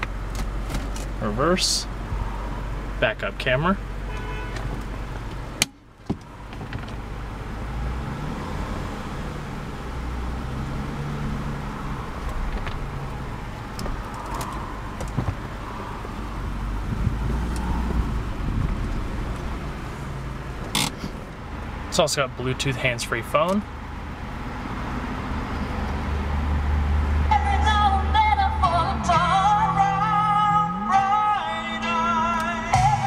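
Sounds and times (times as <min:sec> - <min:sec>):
car engine idling: 0:00.0 - 0:08.1, 0:08.8 - 0:33.0.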